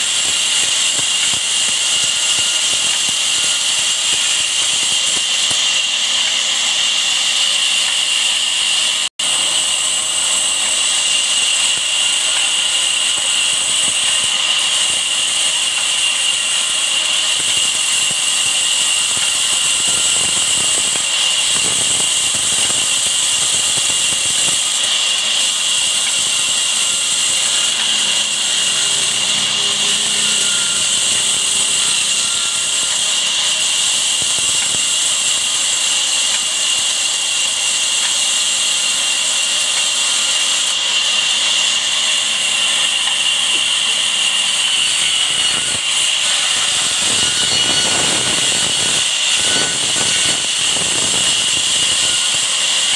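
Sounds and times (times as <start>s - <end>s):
band saw cutting wood: 0.0s - 52.9s.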